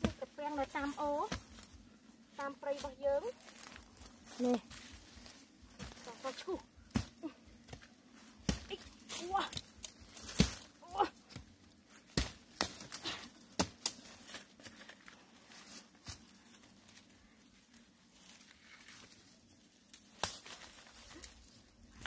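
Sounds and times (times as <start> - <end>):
scraping and rustling leaves: 2.4 - 13.2, 13.8 - 22.0.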